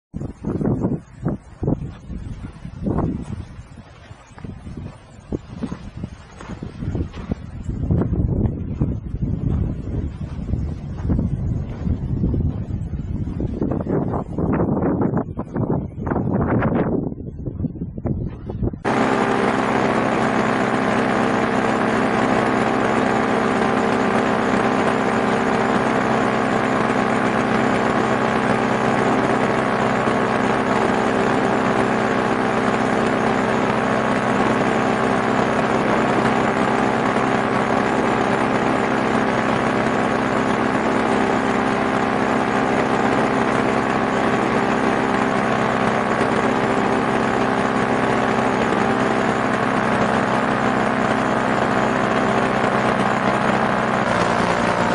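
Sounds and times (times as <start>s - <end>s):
small engine running steadily: 0.0s - 54.9s.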